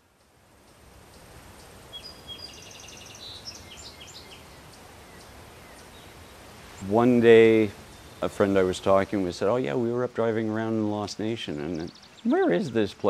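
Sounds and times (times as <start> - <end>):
outdoor background noise: 0.0 - 13.0
songbirds chirping and trilling: 0.0 - 13.0.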